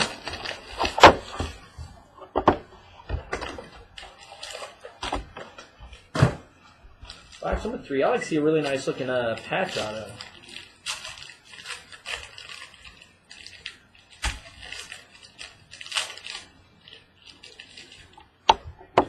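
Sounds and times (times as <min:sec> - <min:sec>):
cardboard rustling: 0:00.0 - 0:19.0
packaging crinkling: 0:00.0 - 0:19.0.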